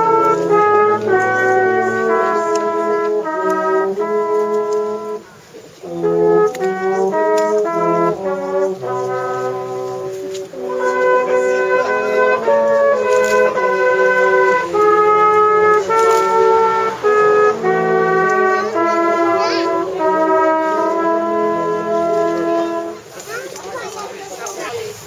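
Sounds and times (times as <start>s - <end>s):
brass band playing chords: 0.0s - 25.0s.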